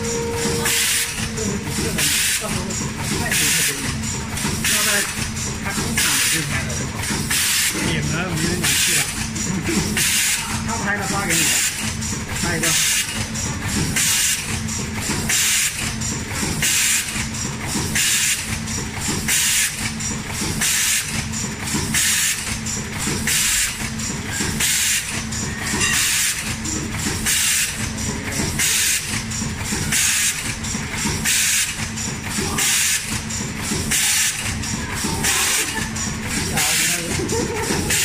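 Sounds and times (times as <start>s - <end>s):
machine drive humming: 0.0s - 38.0s.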